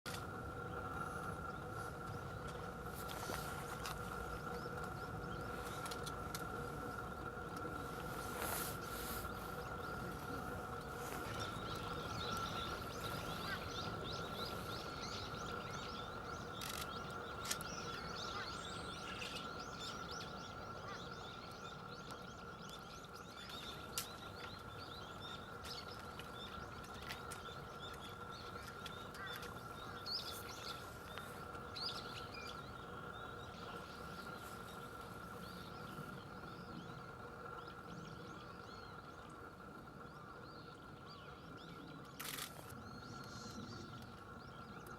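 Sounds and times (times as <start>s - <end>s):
faint high-pitched hum: 0.1s - 44.9s
small birds chirping: 0.1s - 44.9s.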